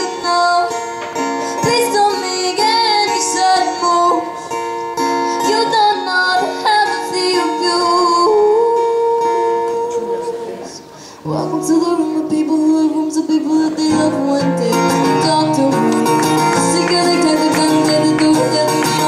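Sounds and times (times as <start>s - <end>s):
woman singing: 0.0s - 10.5s, 11.2s - 19.0s
strummed acoustic guitar: 0.0s - 19.0s.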